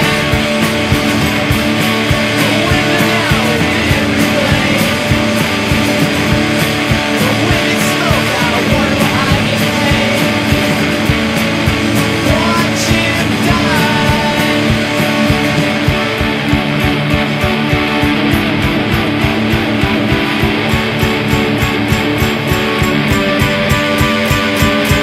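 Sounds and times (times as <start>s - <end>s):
guitar-led rock music: 0.0s - 25.0s
steady drum beat: 0.0s - 25.0s.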